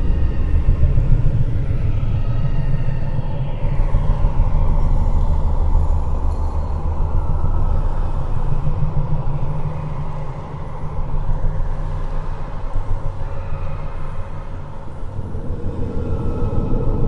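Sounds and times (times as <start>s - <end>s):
faint sustained tones: 0.0s - 17.0s.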